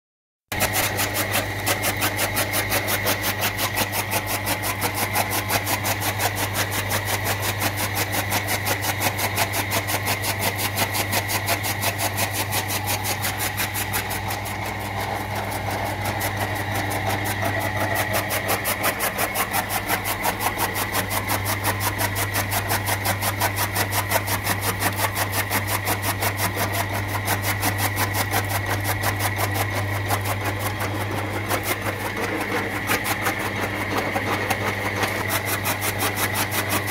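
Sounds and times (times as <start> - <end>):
blades chopping fodder: 0.5 - 36.9
electric motor humming: 0.5 - 36.9.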